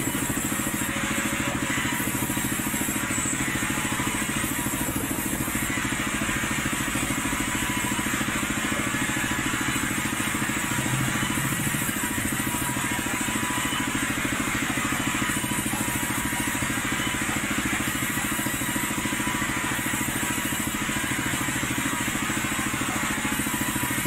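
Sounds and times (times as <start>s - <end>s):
sawmill machinery droning: 0.0s - 24.0s.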